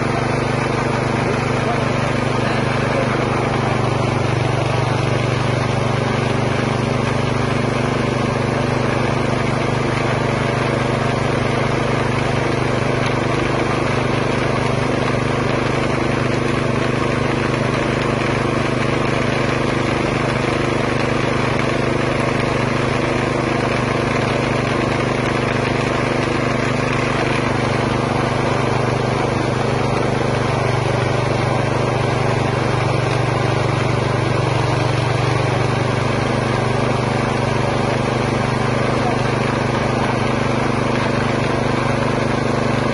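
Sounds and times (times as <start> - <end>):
meat grinder motor humming: 0.0 - 42.9.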